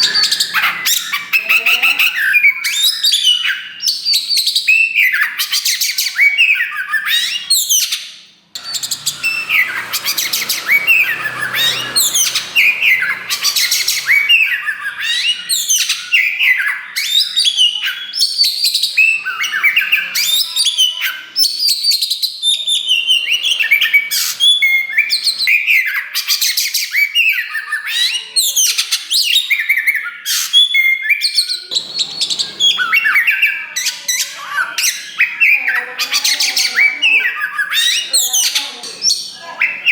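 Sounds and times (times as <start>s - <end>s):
bird singing whistled trills: 0.0s - 8.0s, 8.6s - 39.9s.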